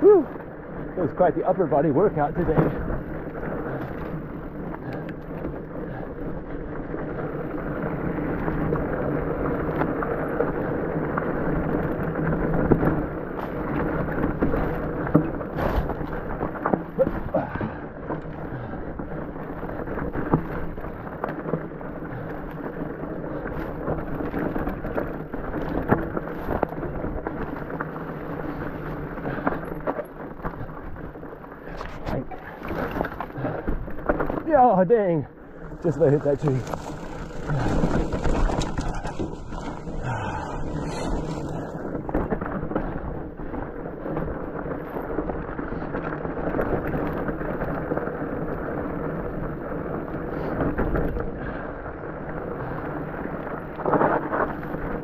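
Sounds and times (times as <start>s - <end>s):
bike knocking and rattling: 0.0s - 55.0s
bike tyres rumbling on dirt: 0.0s - 55.0s.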